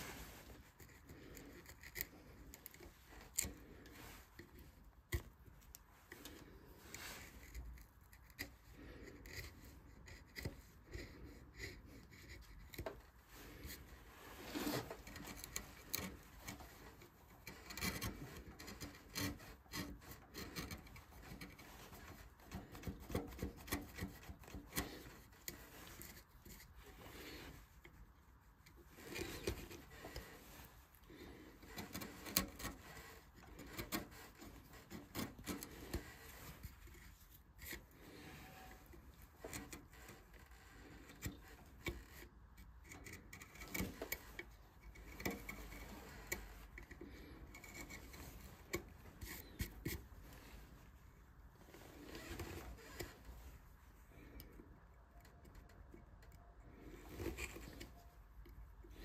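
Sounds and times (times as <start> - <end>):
hand tool scraping wood: 0.0 - 59.0.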